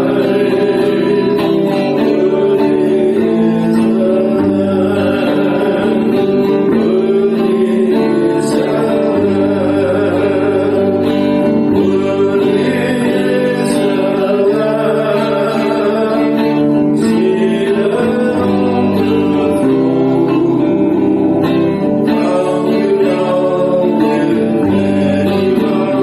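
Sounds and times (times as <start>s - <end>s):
congregation singing: 0.0s - 26.0s
strummed guitar: 0.0s - 26.0s.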